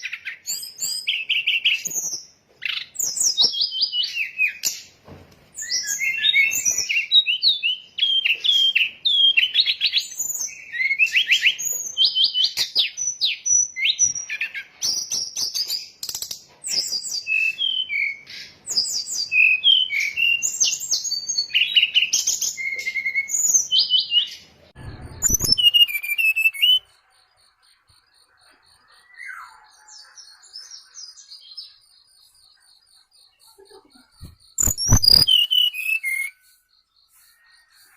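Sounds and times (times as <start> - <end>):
bird chirps and trills: 5.6 - 37.9.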